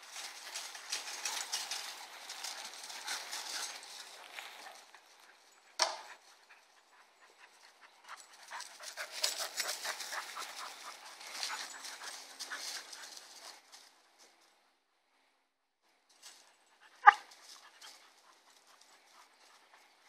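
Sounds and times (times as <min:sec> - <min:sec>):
dogs panting: 0:00.1 - 0:14.0, 0:16.6 - 0:20.0.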